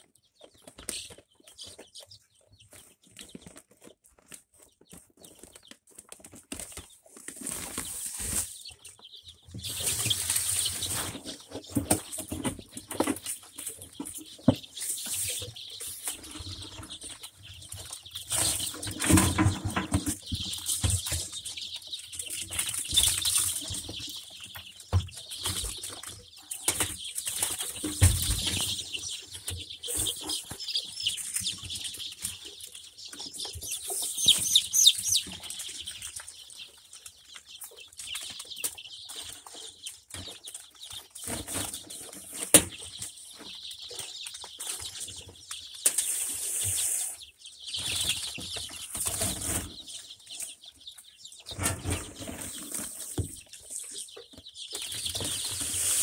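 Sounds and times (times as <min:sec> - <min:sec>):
chicks peeping: 0:00.0 - 0:56.0
scuffling and wing-fluttering: 0:00.4 - 0:47.1.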